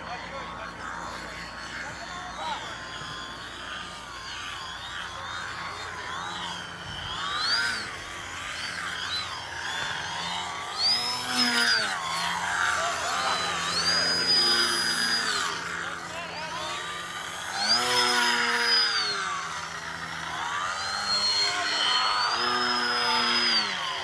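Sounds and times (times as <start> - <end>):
rc plane motor whine: 0.0 - 24.0.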